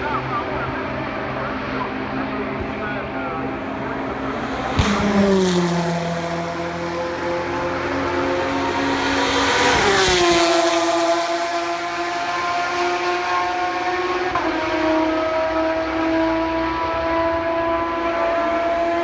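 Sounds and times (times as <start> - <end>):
race car passing at high speed: 0.0 - 19.0.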